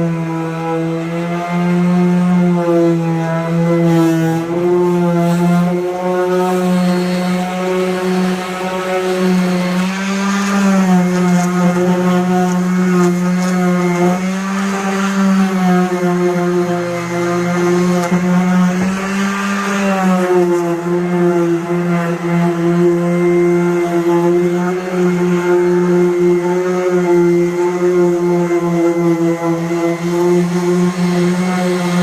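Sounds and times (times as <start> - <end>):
power sander running: 0.0 - 32.0.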